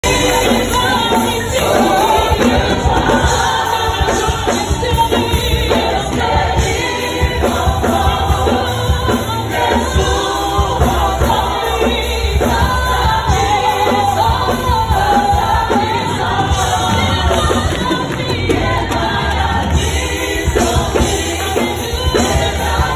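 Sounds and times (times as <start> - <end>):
congregation singing worship song: 0.0 - 22.9
live band playing: 0.0 - 22.9.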